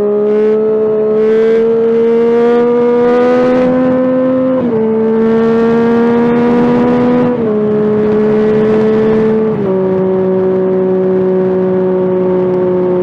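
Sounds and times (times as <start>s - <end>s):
motorcycle engine accelerating: 0.0s - 13.0s
wind and road noise: 0.0s - 13.0s.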